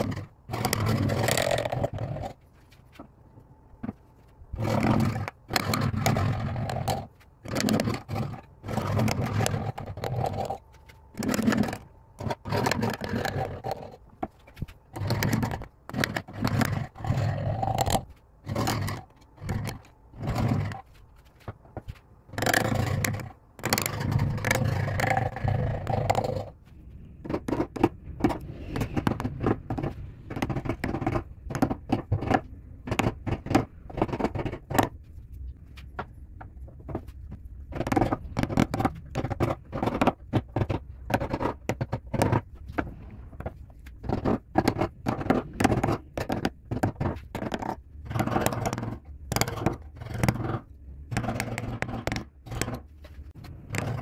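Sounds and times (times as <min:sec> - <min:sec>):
gouges scraping wood: 0:00.0 - 0:03.2, 0:03.8 - 0:54.0.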